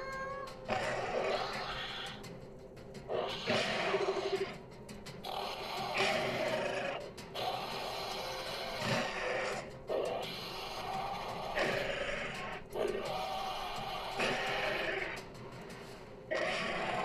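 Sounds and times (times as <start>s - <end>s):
background music: 0.0s - 17.0s
dinosaur roars and growls: 0.7s - 2.2s, 3.1s - 4.6s, 5.2s - 15.2s, 16.3s - 17.0s.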